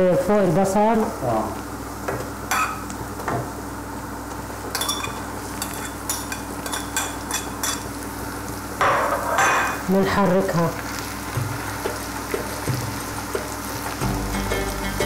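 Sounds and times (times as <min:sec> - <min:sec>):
onions sizzling in oil: 0:00.2 - 0:15.0.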